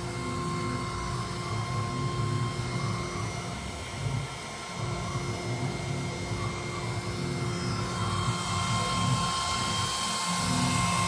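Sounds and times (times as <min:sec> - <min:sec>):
cnc router spindle whine: 0:00.0 - 0:11.0.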